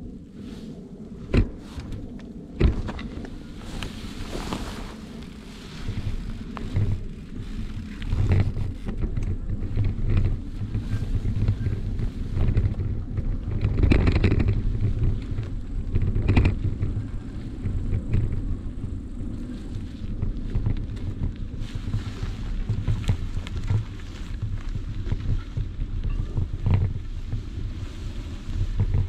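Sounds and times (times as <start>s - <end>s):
wind buffeting microphone: 0.0s - 29.0s
bicycle knocks and rustles: 1.1s - 29.0s.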